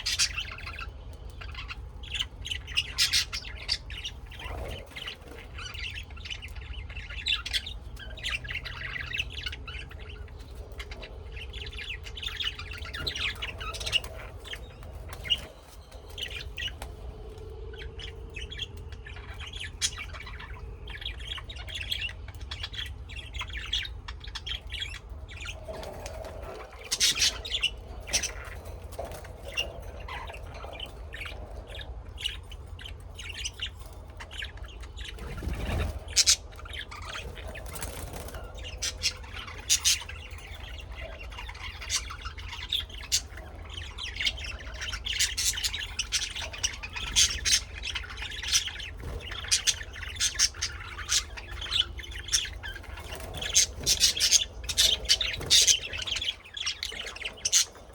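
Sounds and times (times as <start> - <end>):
birds chirping and squawking: 0.0 - 57.9.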